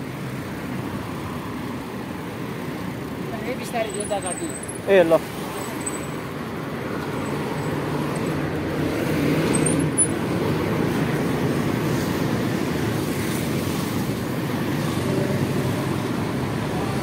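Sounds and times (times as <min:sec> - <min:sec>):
traffic passing on busy street: 0:00.0 - 0:17.0.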